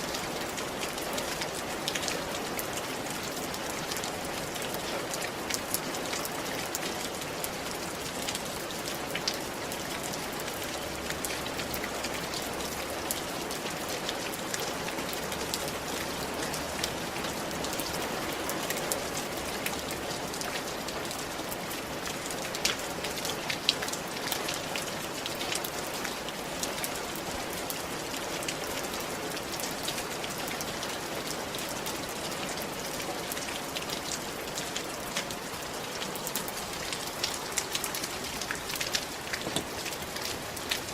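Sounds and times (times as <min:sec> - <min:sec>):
steady rain hiss: 0:00.0 - 0:40.9
raindrops ticking on hard surface: 0:00.1 - 0:40.9.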